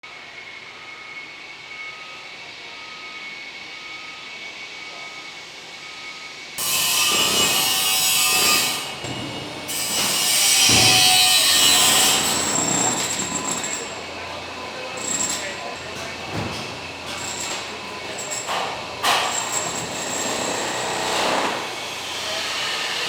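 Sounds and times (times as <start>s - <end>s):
harsh cutting machine noise: 3.8s - 23.0s.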